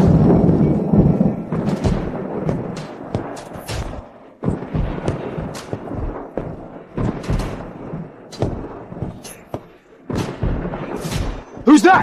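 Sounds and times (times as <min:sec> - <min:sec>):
heavy thuds and sharp hits: 0:01.5 - 0:11.7.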